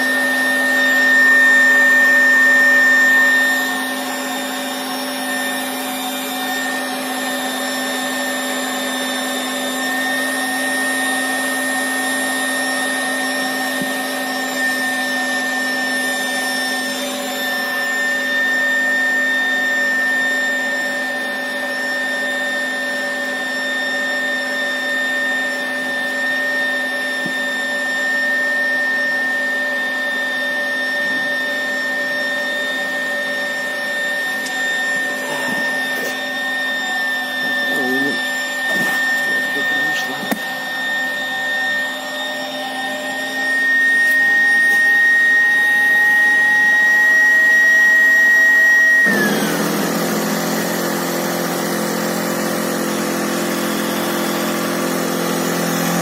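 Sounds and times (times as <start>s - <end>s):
electric air pump running: 0.0s - 56.0s.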